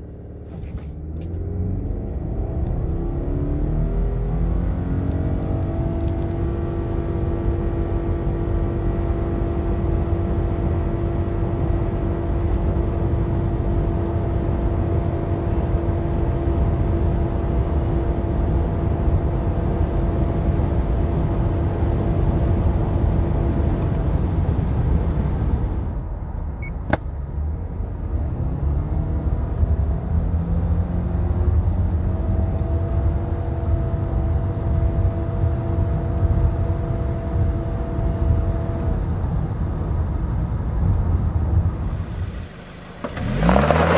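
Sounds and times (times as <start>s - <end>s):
car engine at full throttle: 0.0s - 43.9s
road and wind rumble: 0.0s - 43.9s.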